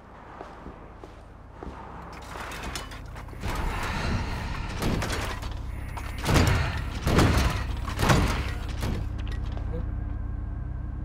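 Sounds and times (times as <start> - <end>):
mechanical clanking and rumbling: 0.0 - 11.0.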